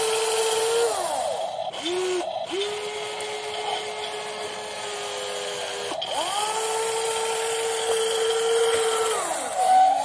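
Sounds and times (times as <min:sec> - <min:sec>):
electric motors whining: 0:00.0 - 0:10.0.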